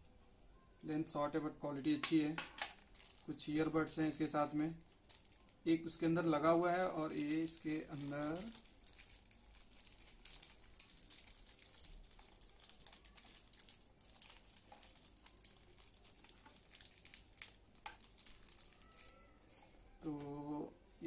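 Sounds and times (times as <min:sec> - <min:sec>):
plastic bag crinkling: 0:02.0 - 0:20.4.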